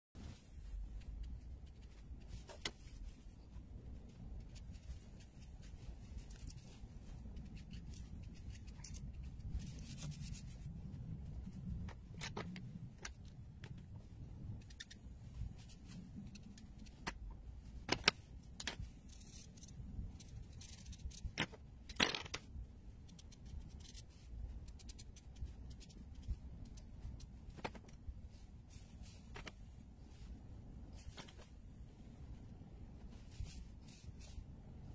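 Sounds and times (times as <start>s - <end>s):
low room rumble: 0.2s - 34.9s
markers clicking and scraping: 0.9s - 29.7s.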